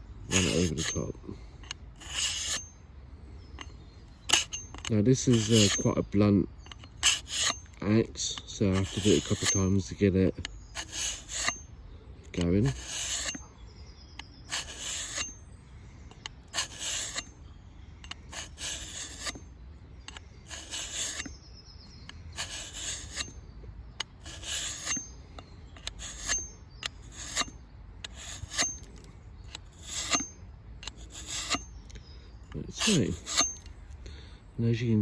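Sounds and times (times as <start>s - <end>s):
sharpener rasping on axe edge: 0.3s - 2.8s, 3.6s - 13.5s, 14.2s - 15.4s, 16.1s - 17.4s, 18.0s - 21.4s, 22.0s - 23.4s, 24.0s - 31.8s, 32.5s - 34.0s
thin metallic ring: 0.3s - 2.8s, 3.5s - 11.7s, 12.4s - 13.5s, 14.2s - 15.4s, 16.1s - 17.3s, 18.0s - 21.4s, 22.0s - 23.4s, 24.0s - 31.8s, 32.5s - 33.9s.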